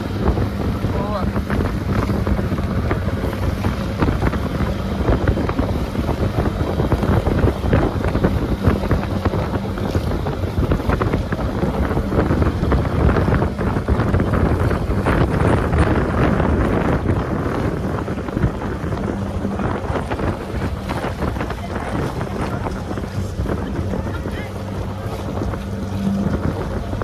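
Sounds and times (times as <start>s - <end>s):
boat engine running: 0.0s - 27.0s
water slapping against hull: 0.0s - 27.0s
wind buffeting microphone: 0.0s - 27.0s.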